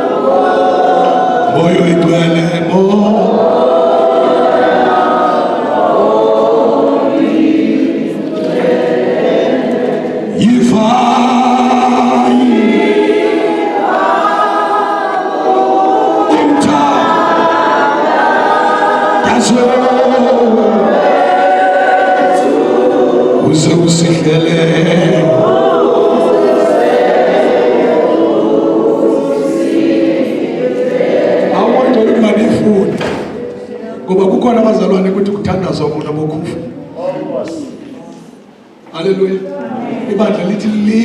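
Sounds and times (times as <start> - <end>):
congregation singing unaccompanied: 0.0 - 41.0.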